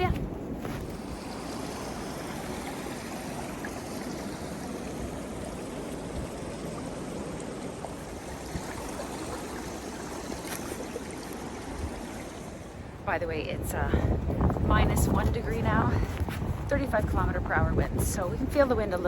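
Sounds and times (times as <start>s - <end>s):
strong wind through forest: 0.0s - 19.0s.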